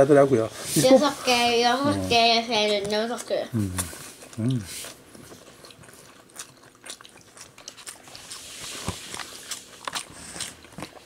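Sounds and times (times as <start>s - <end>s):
chewing with mouth clicks: 1.9s - 11.0s.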